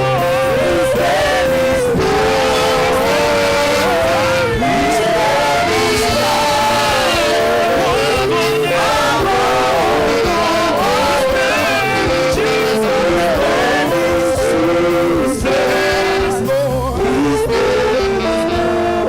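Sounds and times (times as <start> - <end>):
instrumental band accompaniment: 0.0 - 19.0
sung melody: 0.0 - 19.0.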